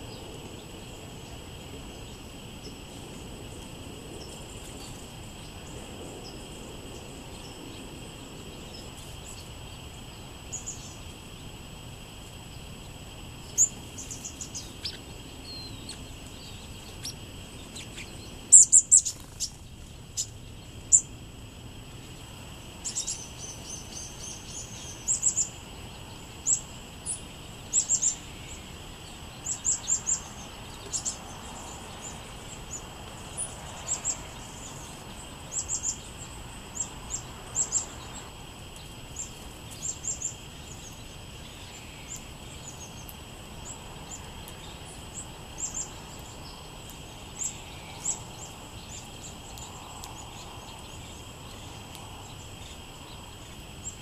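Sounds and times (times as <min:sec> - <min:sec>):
small songbirds chirping: 0:00.0 - 0:54.0
steady high hiss: 0:00.0 - 0:54.0.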